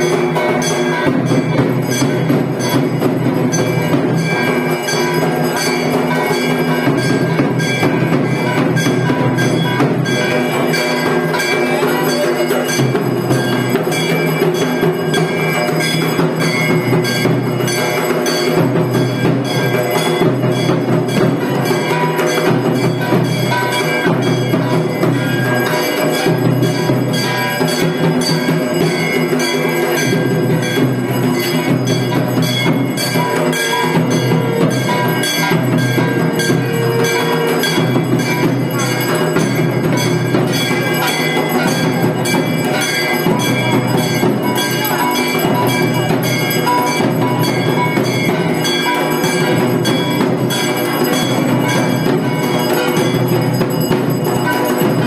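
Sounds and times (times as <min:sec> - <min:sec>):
background music with percussion: 0:00.0 - 0:55.0.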